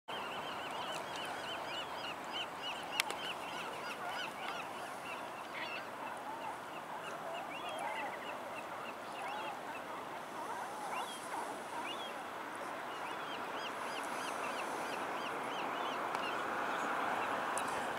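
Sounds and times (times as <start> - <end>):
birds calling: 0.1 - 17.9.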